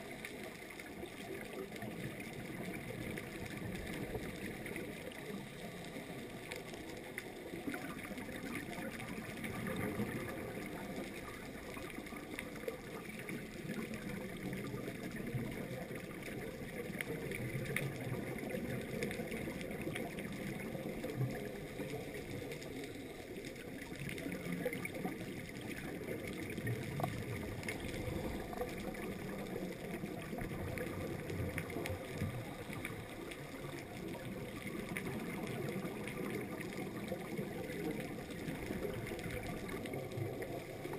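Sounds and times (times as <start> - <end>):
faint clicks and crackles: 0.0 - 40.9
underwater low rushing: 0.0 - 40.9.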